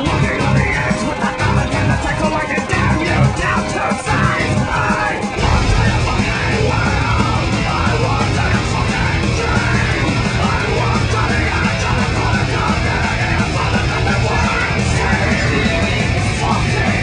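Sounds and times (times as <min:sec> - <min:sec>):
heavy rock music: 0:00.0 - 0:17.0
shouted vocals: 0:00.0 - 0:17.0.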